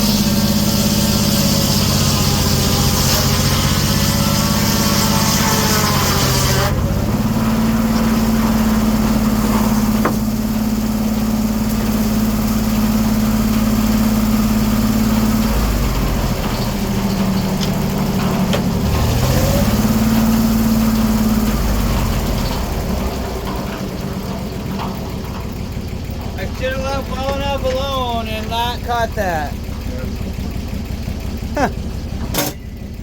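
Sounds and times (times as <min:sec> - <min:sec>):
sawmill engine and saw humming: 0:00.0 - 0:33.0.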